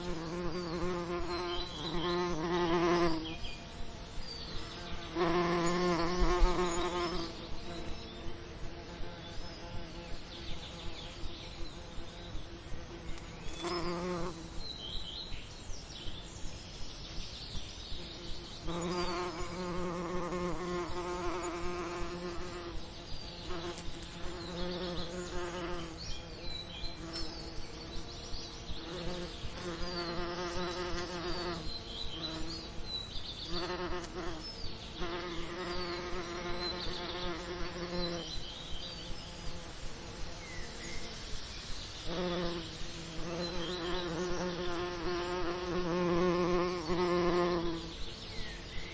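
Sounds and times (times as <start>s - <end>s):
bees buzzing: 0.0s - 14.9s, 17.9s - 41.2s, 42.0s - 48.1s.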